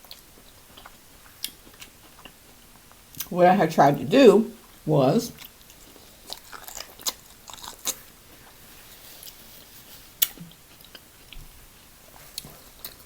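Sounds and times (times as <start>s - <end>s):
person chewing food: 0.0s - 3.3s, 5.4s - 13.0s.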